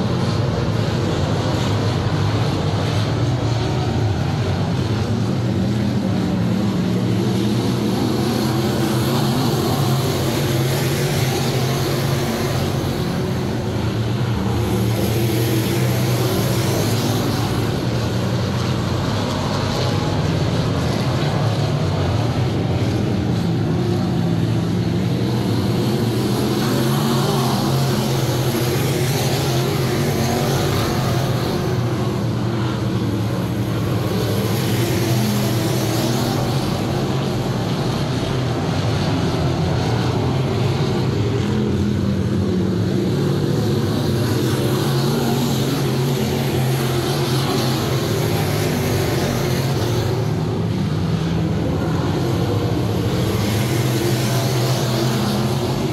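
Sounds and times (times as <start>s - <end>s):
race car engines droning: 0.0s - 55.9s.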